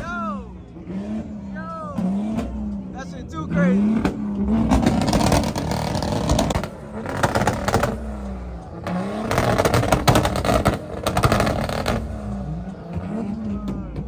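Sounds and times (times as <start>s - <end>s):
car engine revving: 0.0s - 14.0s
exhaust pops and crackles: 0.0s - 14.0s.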